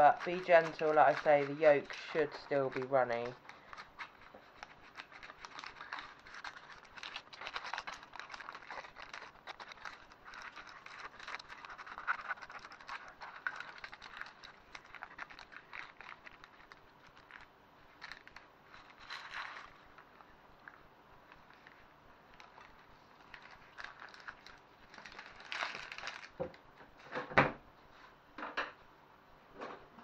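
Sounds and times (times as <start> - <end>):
baking paper crinkling: 0.0 - 27.1.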